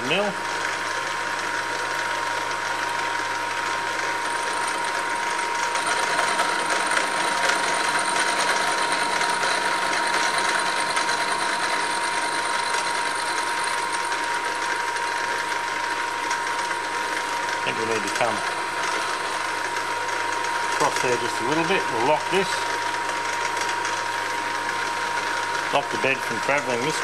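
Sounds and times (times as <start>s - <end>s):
milling machine whine: 0.0s - 27.0s.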